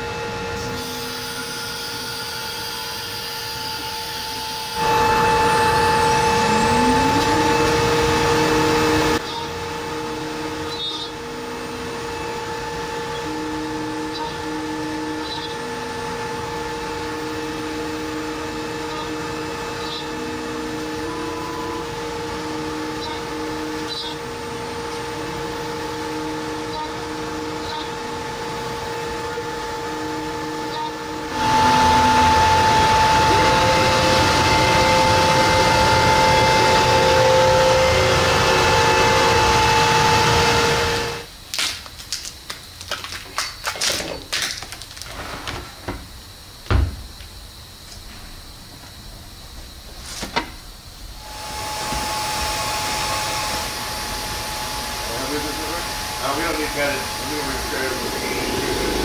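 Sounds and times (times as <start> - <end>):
cnc router spindle whine: 0.0 - 41.4, 43.6 - 59.0.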